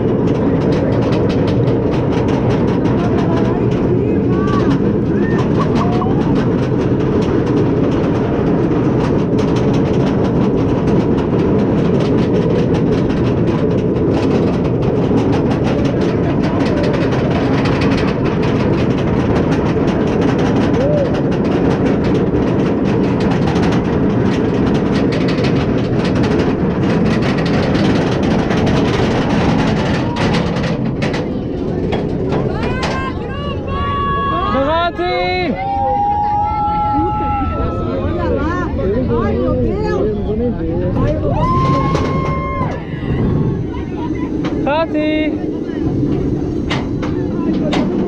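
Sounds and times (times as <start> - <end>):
rapid anti-rollback clacking: 0.0 - 33.2, 38.3 - 48.0
roller coaster lift chain rumble: 0.0 - 48.0.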